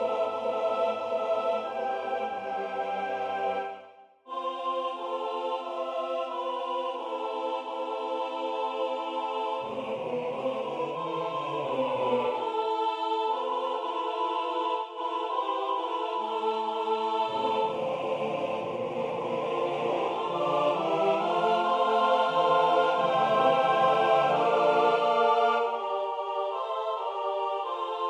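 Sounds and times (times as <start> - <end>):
choir singing unaccompanied: 0.0 - 28.0.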